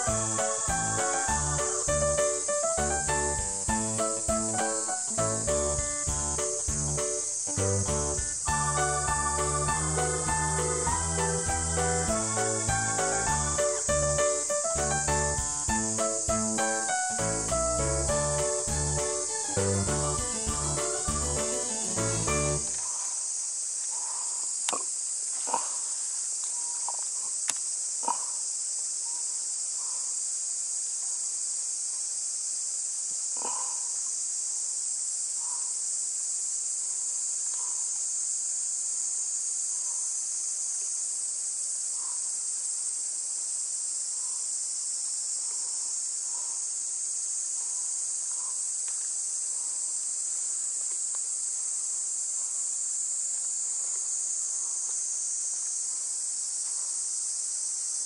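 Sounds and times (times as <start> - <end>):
insects chorus: 0.0 - 58.0.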